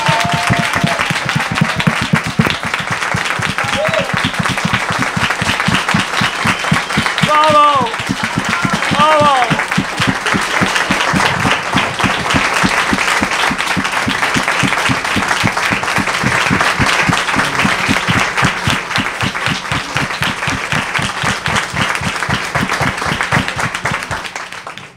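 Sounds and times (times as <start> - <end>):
crowd applauding: 0.0 - 24.9.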